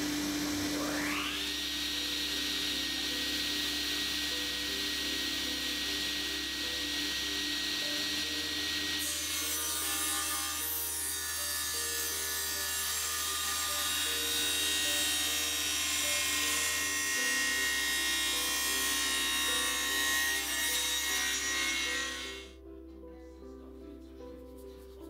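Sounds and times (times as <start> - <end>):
table saw cutting wood: 0.0 - 22.6
slow melody music: 0.0 - 25.0.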